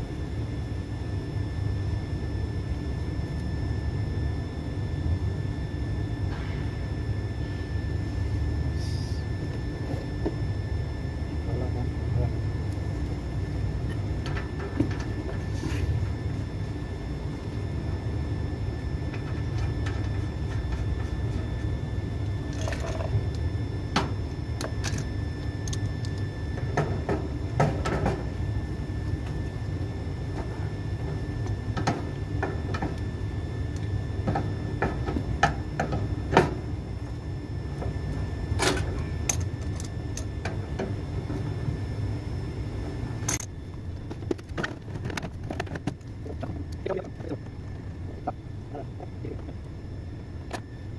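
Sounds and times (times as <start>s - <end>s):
low machinery hum: 0.0s - 50.9s.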